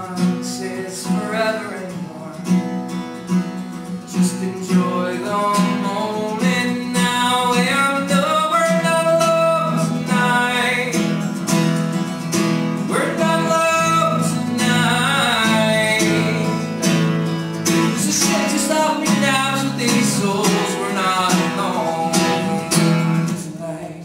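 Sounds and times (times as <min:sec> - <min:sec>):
man singing: 0:00.0 - 0:02.6, 0:03.9 - 0:11.4, 0:12.8 - 0:24.0
acoustic guitar strummed: 0:00.0 - 0:24.0.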